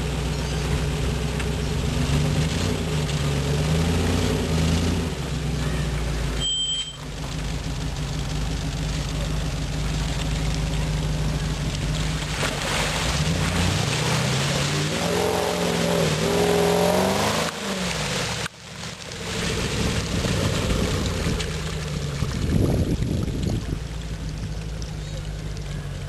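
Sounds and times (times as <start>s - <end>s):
car engine revving: 0.0s - 6.4s, 7.0s - 22.5s
tires churning through mud: 0.0s - 26.0s.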